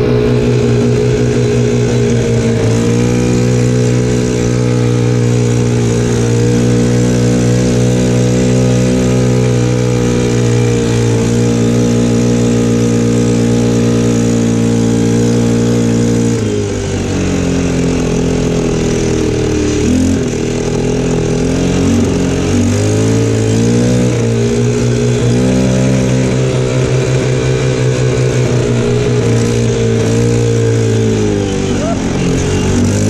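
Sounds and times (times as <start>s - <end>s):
quad bike engine running: 0.0s - 33.0s.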